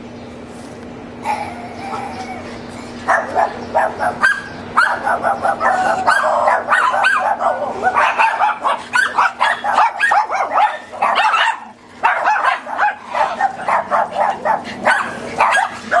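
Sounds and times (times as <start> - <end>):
small dogs barking and yapping: 1.2 - 16.0.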